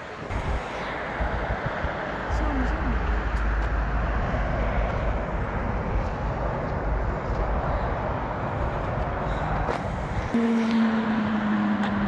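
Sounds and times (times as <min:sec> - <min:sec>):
motorway traffic roar: 0:00.0 - 0:12.0.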